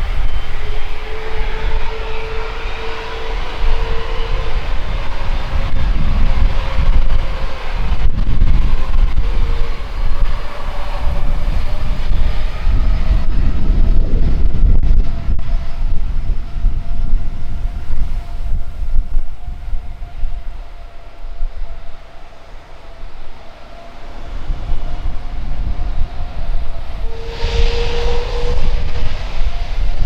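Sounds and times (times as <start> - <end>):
jet engines at take-off power: 0.0 - 30.0.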